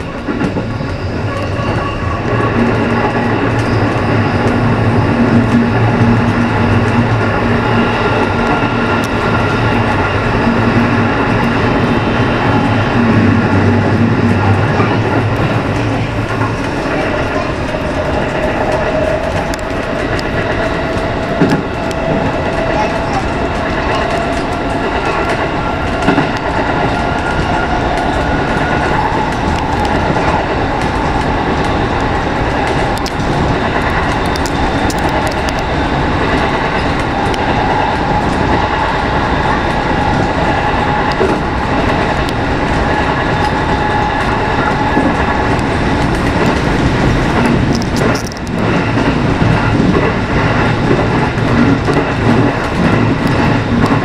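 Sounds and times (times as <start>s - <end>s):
clacks over rail joints: 0.0s - 54.0s
train wheels rumbling on rail: 0.0s - 54.0s.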